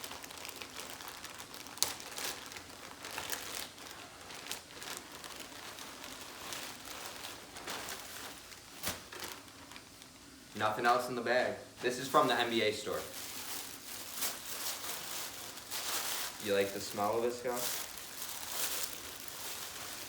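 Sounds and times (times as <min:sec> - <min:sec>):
packaging crinkling and rustling: 0:00.0 - 0:10.5, 0:11.8 - 0:20.0.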